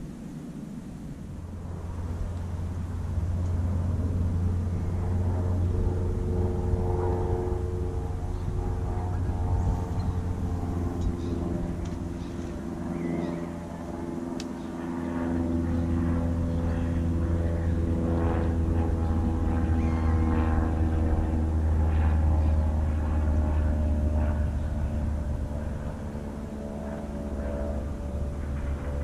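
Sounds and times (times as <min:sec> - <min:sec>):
distant engine drone: 0:00.0 - 0:29.0.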